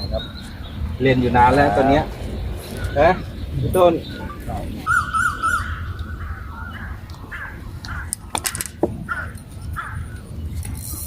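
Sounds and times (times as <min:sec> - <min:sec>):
bird calling: 0:00.0 - 0:10.5.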